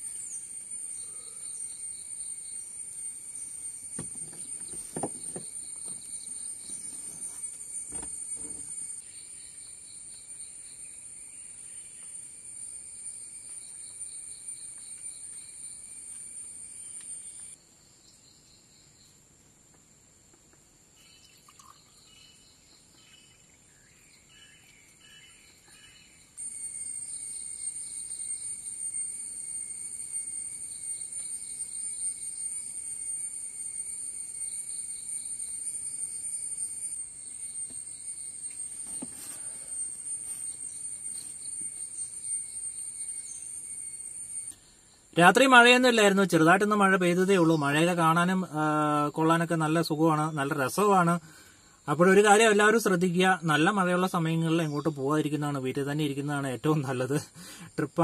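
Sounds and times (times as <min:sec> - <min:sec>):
high-pitched insect chorus: 0:00.0 - 0:58.0
pulsing insect chirp: 0:00.0 - 0:58.0.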